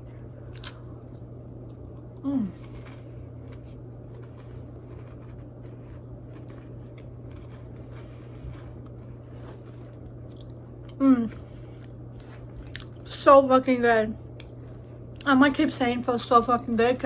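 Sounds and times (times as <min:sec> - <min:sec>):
chewing and handling food: 0:00.0 - 0:13.2, 0:14.3 - 0:15.4
steady low hum: 0:00.0 - 0:17.0.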